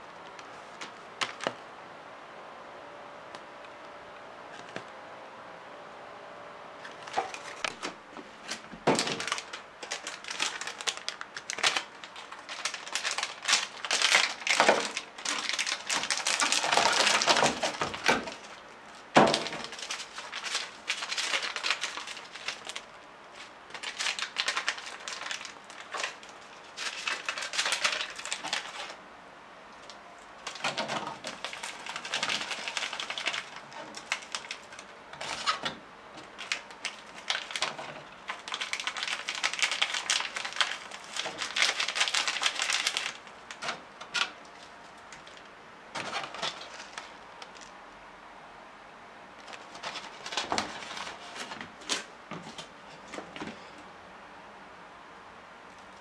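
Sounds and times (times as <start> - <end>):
packaging crinkling and rustling: 0.2 - 1.6, 6.8 - 29.0, 29.8 - 47.8, 49.4 - 53.8.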